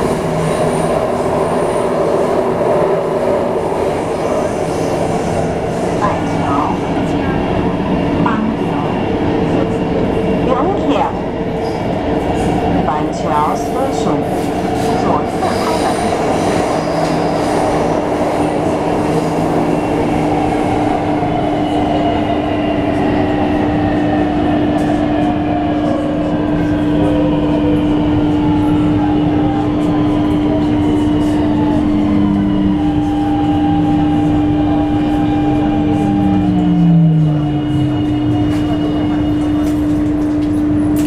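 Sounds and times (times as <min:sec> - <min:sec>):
train running on rails: 0:00.0 - 0:41.0.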